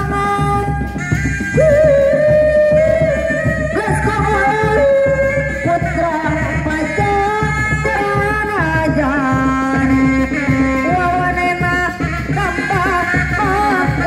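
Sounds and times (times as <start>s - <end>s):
frame drums beaten fast: 0.0s - 14.0s
ornamented melody line: 0.0s - 14.0s.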